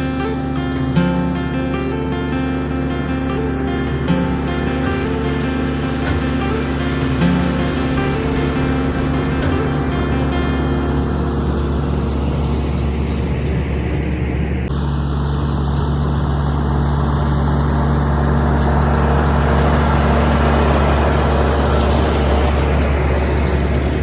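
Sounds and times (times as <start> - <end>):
tractor engine under load: 0.0 - 24.0.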